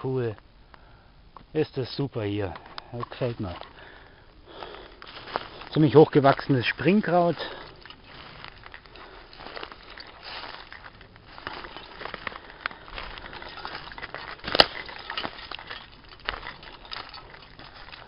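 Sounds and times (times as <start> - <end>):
twig cracking: 2.6 - 18.0
footsteps crunching on leaf litter: 3.0 - 18.0.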